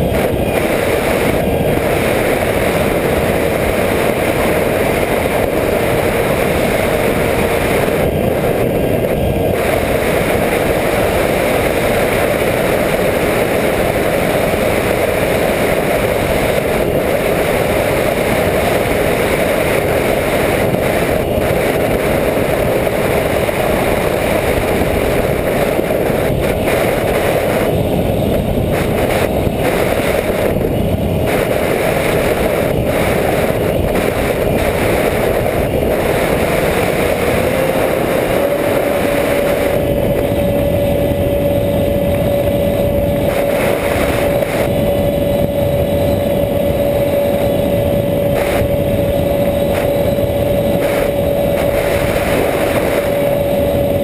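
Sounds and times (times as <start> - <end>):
electric motor and propeller hum: 0.0 - 54.0
faint steady whine: 0.0 - 54.0
wind rushing over camera: 0.0 - 54.0.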